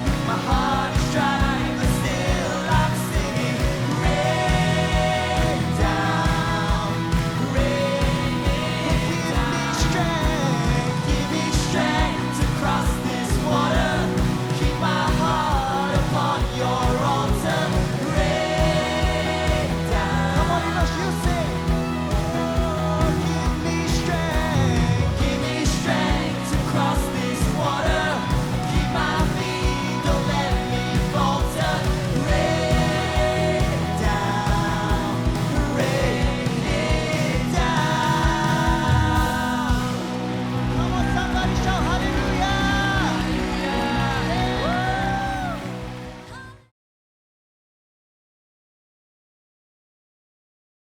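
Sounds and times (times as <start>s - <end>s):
drum beat: 0.0s - 44.5s
person singing: 0.0s - 46.4s
rock worship band playing: 0.0s - 46.4s.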